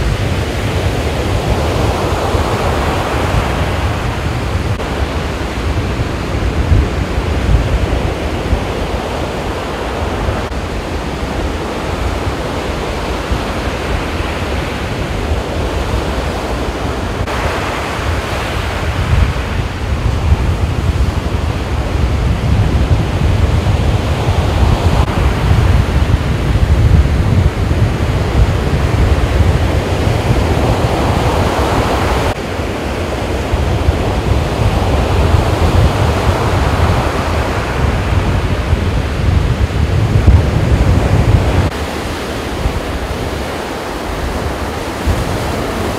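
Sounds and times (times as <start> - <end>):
surf breaking on beach: 0.0 - 45.9
wind rumbling on microphone: 0.0 - 45.9.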